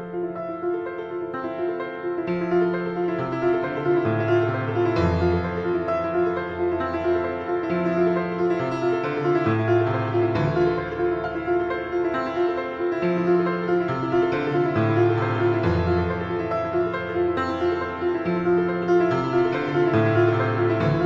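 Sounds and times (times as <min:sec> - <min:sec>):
piano background music: 0:00.0 - 0:21.0.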